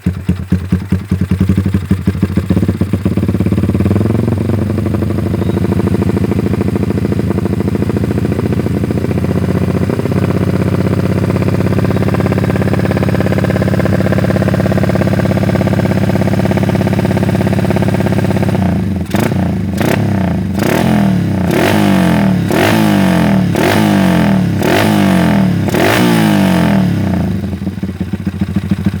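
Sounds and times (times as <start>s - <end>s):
motorcycle engine idling: 0.0s - 29.0s
motorcycle engine revving: 0.0s - 29.0s.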